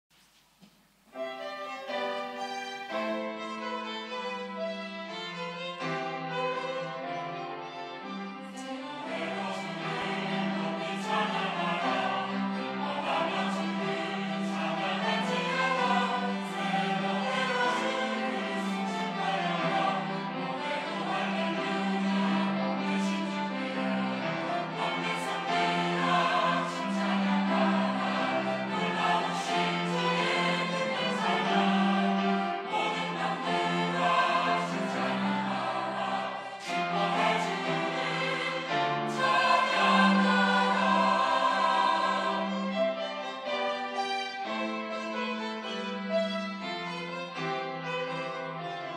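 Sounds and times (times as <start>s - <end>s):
church choir singing: 1.1s - 48.9s.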